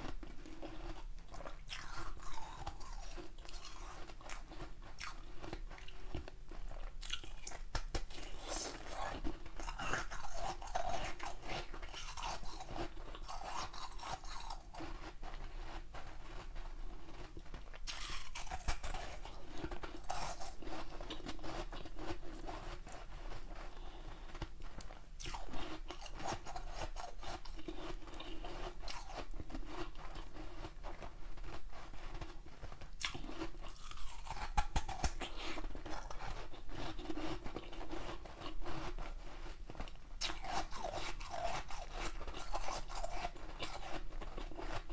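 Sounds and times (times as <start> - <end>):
person chewing and crunching ice: 0.0 - 44.9.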